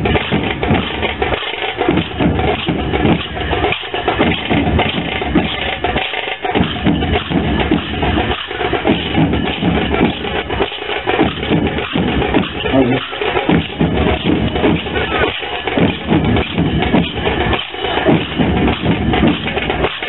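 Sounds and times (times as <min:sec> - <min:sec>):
rhythmic drum and percussion music: 0:00.0 - 0:20.0.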